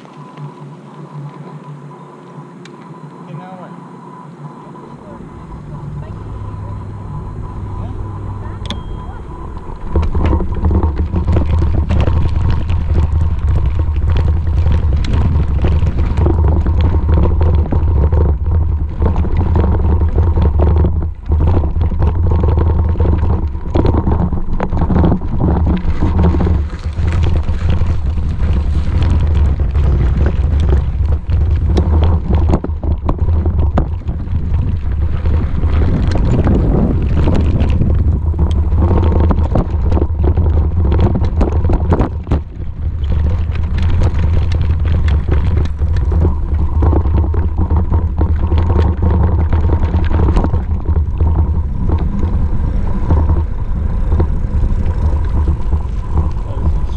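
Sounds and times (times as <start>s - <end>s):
wind buffeting microphone: 4.8s - 56.9s
small clicks and rattles: 8.6s - 56.9s.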